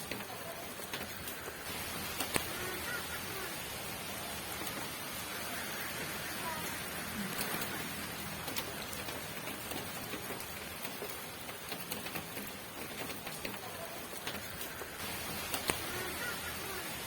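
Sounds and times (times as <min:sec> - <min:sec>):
raindrops ticking on a surface: 0:00.0 - 0:17.0
steady rain: 0:00.0 - 0:17.0.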